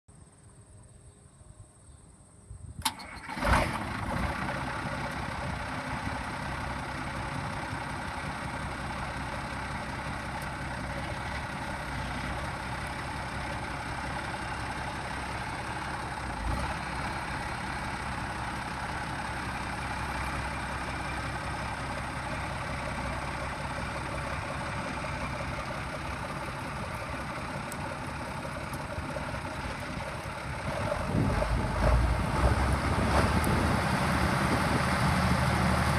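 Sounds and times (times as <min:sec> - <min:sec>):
diesel tractor engine starting and idling: 0:02.7 - 0:35.9.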